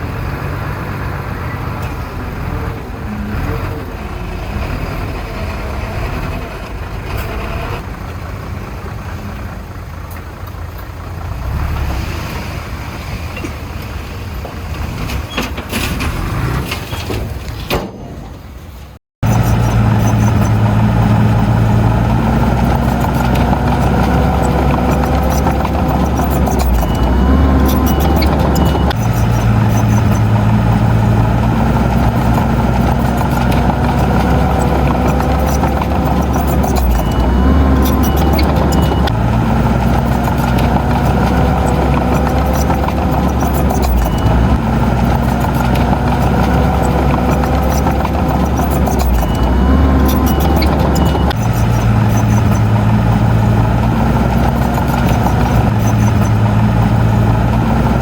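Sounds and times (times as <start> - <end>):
heavy diesel engine running: 0.0 - 16.5, 19.2 - 58.0.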